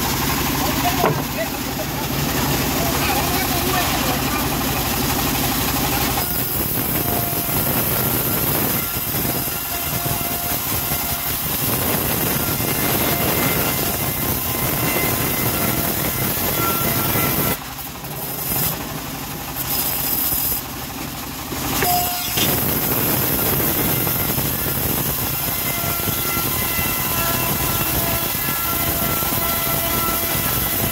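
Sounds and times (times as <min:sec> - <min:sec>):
bandsaw cutting through wood: 0:00.0 - 0:20.8, 0:21.5 - 0:30.9.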